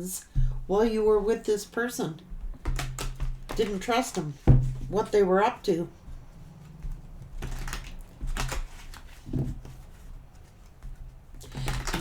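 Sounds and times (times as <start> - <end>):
soft rustles and taps: 2.2 - 12.0.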